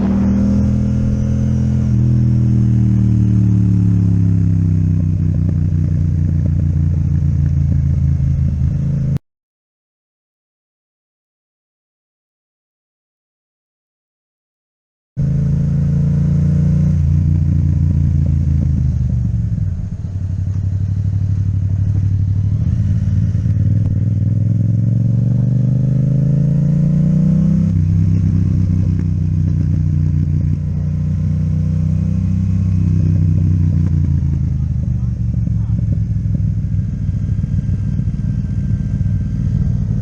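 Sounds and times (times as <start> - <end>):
motorcycle engine accelerating: 0.0 - 9.2, 15.2 - 40.0.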